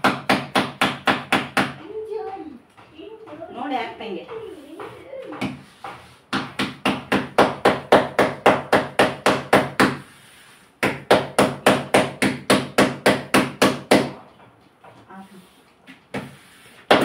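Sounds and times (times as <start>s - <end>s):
dough patted by hand: 0.0s - 10.1s, 10.8s - 14.2s, 15.9s - 17.0s.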